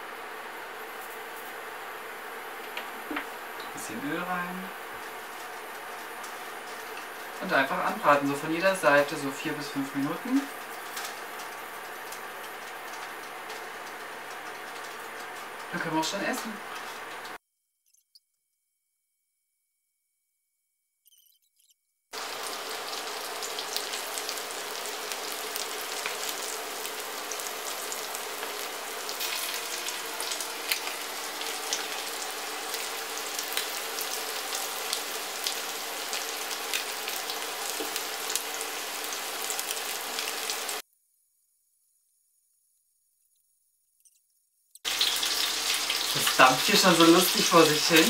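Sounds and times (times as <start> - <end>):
chicken frying in hot oil: 0.0 - 17.4, 22.1 - 40.8, 44.8 - 48.0.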